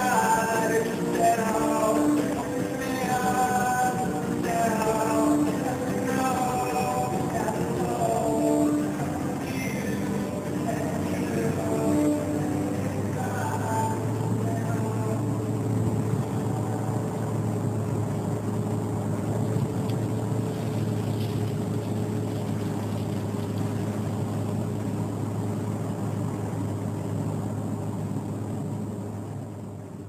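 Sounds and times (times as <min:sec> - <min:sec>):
car engine hum: 0:00.0 - 0:30.0
road noise: 0:00.0 - 0:30.0.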